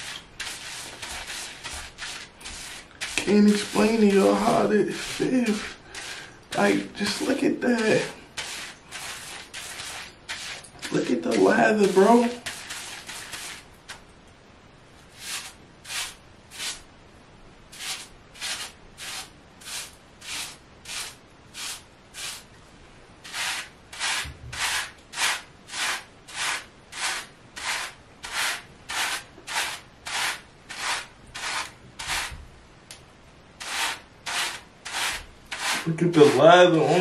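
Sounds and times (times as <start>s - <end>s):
brush scraping through hair: 0.0s - 14.0s, 15.1s - 16.8s, 17.7s - 22.5s, 23.2s - 32.4s, 33.6s - 37.0s.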